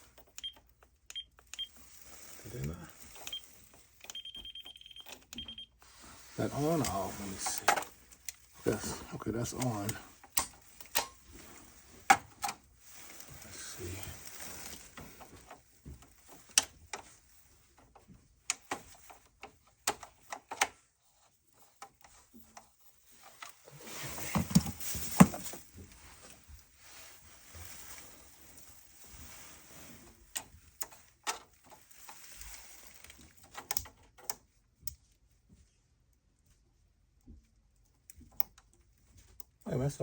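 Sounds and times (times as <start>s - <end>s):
rustling and scraping: 1.4s - 34.2s.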